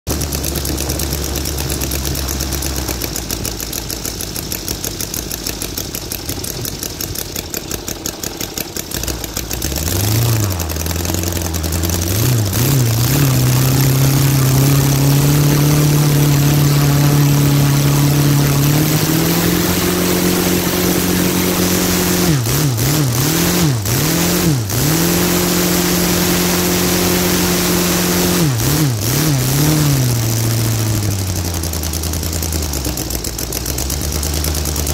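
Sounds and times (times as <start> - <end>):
propeller whirring: 0.1 - 34.9
radial engine running: 0.1 - 34.9.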